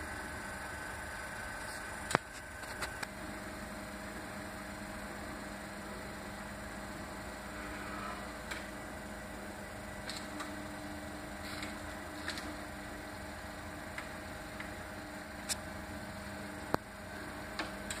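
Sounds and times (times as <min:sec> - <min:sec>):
electrical motor hum: 0:00.0 - 0:18.0.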